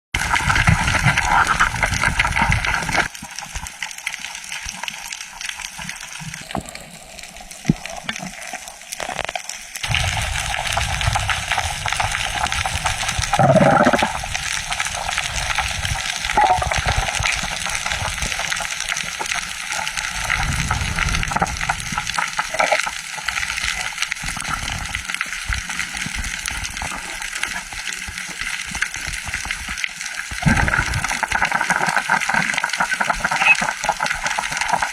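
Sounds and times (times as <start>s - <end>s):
rushing hissing water: 0.2s - 34.9s.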